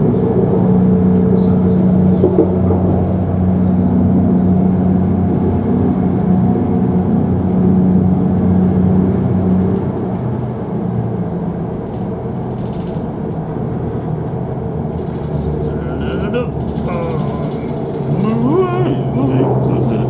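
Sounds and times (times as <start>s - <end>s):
train diesel engine drone: 0.0s - 20.0s.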